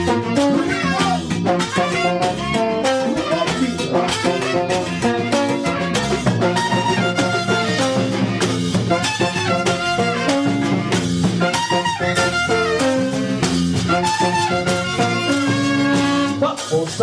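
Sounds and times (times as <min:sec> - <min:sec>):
brass section: 0:00.0 - 0:16.8
drums and percussion: 0:00.0 - 0:17.0
salsa orchestra playing: 0:00.0 - 0:17.0.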